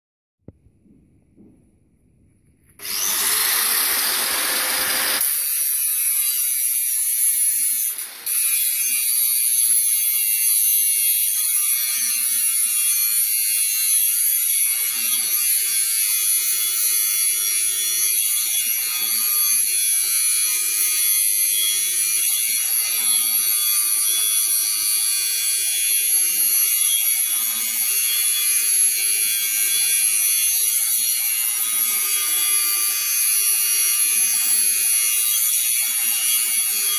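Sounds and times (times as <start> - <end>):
angle grinder grinding metal: 2.8 - 36.9.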